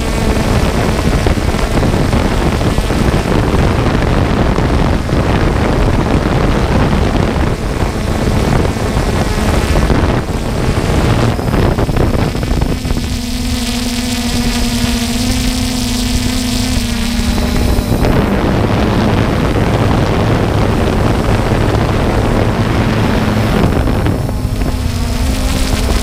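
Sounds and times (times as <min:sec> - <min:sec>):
drone propellers whirring: 0:00.0 - 0:26.0
steady motor hum: 0:00.0 - 0:26.0
wind on microphone: 0:00.0 - 0:26.0.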